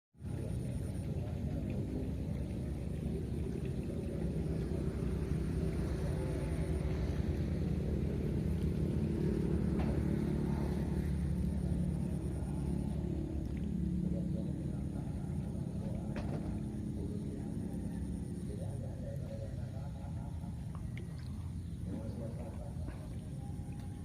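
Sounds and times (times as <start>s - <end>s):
engine running with low rumble: 0.2s - 24.0s.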